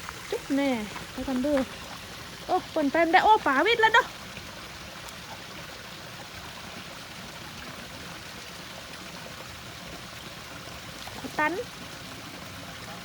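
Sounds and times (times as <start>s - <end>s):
water flowing: 0.0s - 13.0s.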